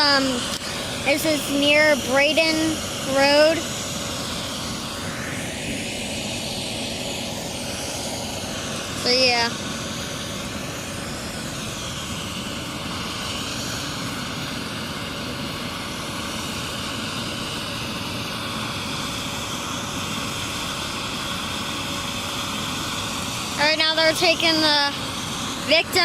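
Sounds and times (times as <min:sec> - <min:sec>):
helicopter turbine whine: 0:00.0 - 0:26.0.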